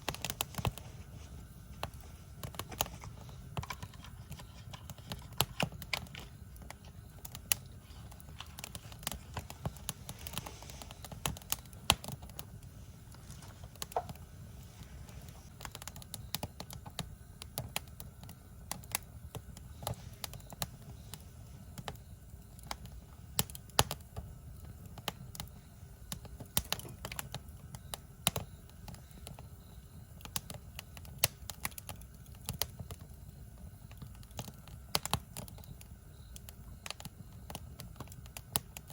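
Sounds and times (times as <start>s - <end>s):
campfire crackling and popping: 0.0s - 38.9s
low rumble of burning fire: 0.0s - 38.9s.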